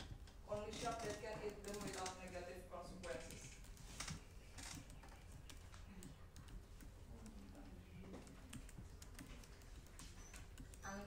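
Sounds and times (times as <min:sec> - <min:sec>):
laptop keyboard typing: 0:00.0 - 0:11.0.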